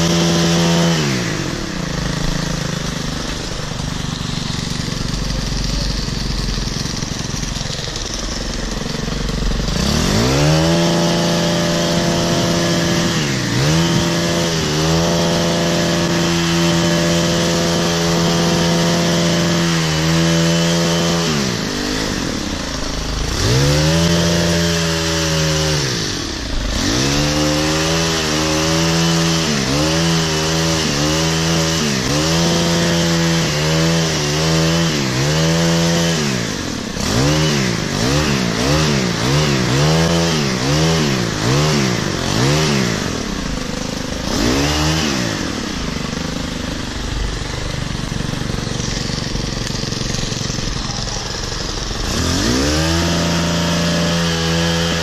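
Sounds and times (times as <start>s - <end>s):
hedge trimmer engine revving: 0.0s - 55.0s.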